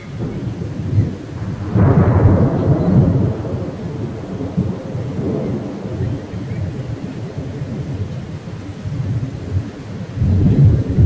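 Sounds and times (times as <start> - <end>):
heavy rain: 0.0 - 11.0
thunder clap rumbling: 0.0 - 11.0.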